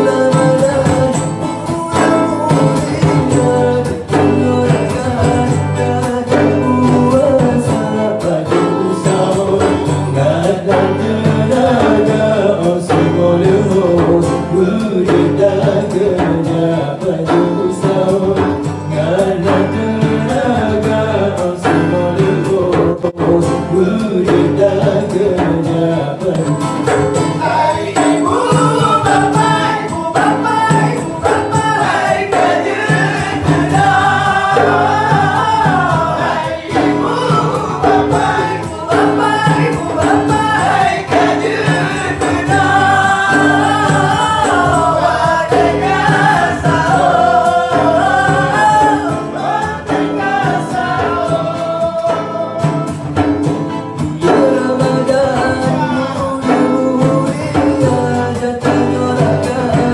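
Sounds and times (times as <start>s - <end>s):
acoustic guitars: 0.0s - 59.9s
frame drum: 0.0s - 59.9s
men singing ornamented lines: 0.0s - 59.9s.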